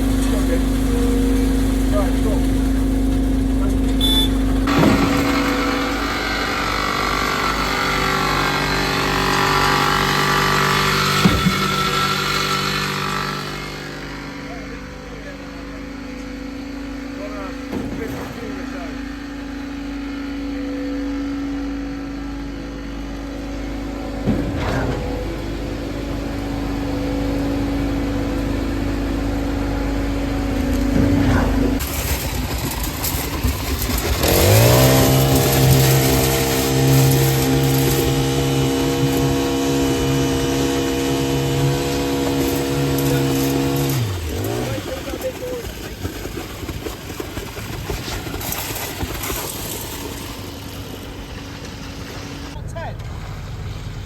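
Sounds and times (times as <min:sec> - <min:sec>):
machine engine running: 0:00.0 - 0:54.0.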